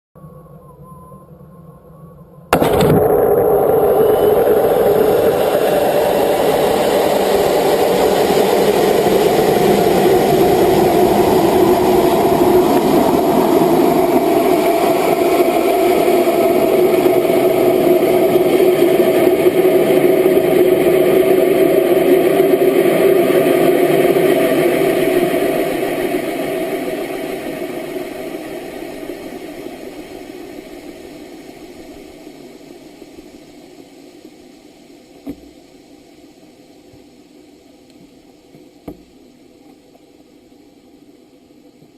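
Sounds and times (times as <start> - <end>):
engine-like drone: 0.2 - 34.8.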